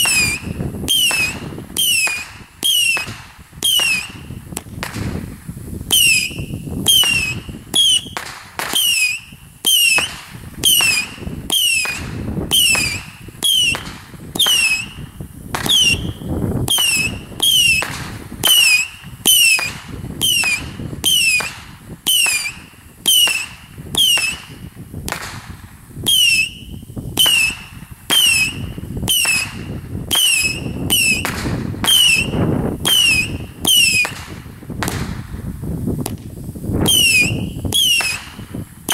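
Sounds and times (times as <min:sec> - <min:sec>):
fireworks popping and whistling: 0:00.0 - 0:38.9.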